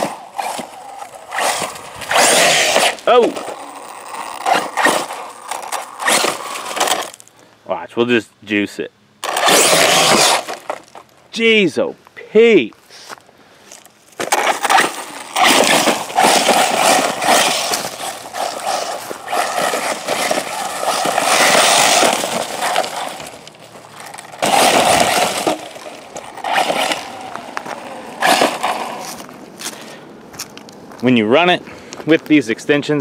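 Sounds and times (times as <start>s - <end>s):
rc car tires crackling over gravel: 0.0s - 7.4s, 9.2s - 11.4s, 12.8s - 33.0s.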